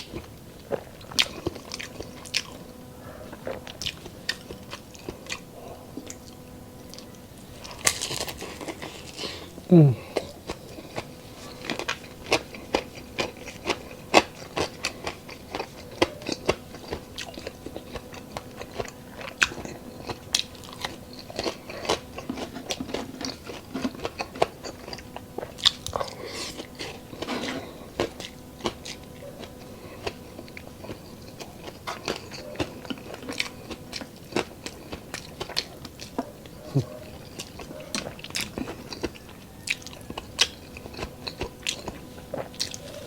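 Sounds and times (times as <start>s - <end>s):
chewing crispy food: 0.0s - 43.0s.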